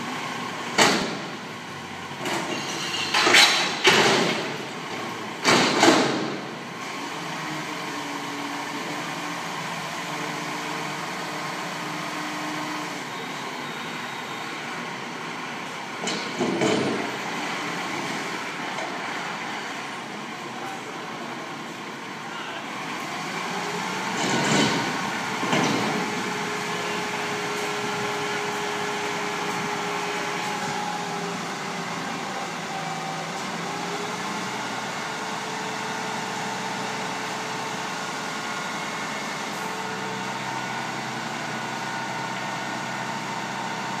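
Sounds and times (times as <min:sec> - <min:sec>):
garbage truck mechanical hum: 0:00.0 - 0:44.0.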